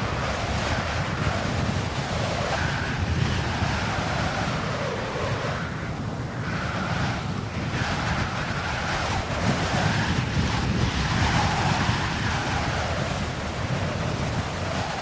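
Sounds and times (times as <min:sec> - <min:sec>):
rushing surf or wind: 0:00.0 - 0:15.0.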